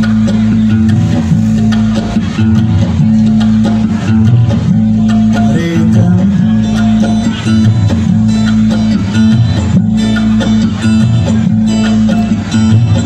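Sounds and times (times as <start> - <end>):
heavy bass line: 0.0 - 13.0
live band with electric guitars: 0.0 - 13.0.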